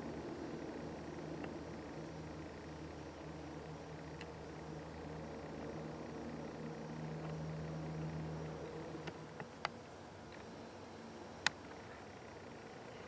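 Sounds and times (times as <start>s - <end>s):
flying insect buzzing: 0.0s - 13.0s.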